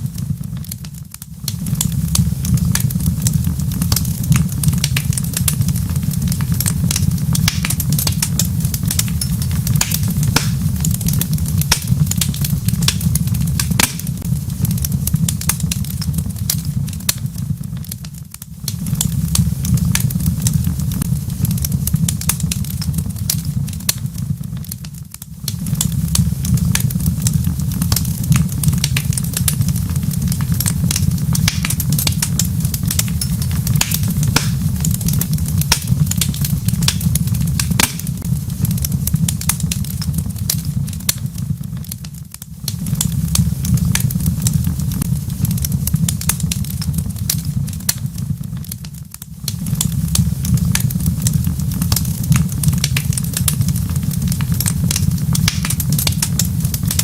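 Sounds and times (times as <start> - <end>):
steady low rumble: 0.0 - 57.0
wood fire crackling and popping: 0.0 - 57.0.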